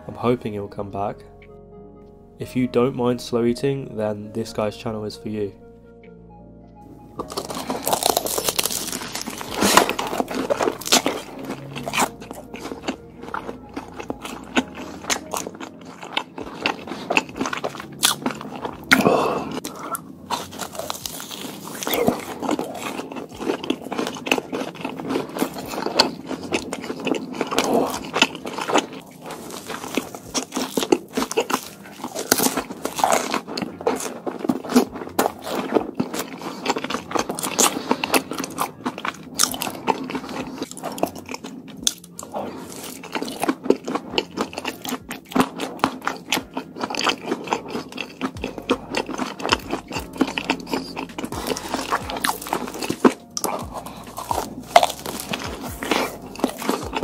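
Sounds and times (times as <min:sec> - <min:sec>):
man crunching crispy food: 0:07.2 - 0:57.0.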